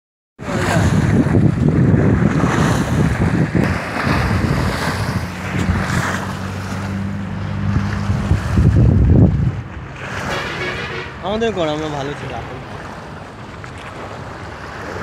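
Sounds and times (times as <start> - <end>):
small waves breaking on bank: 0.4 - 15.0
wind buffeting microphone: 0.4 - 15.0.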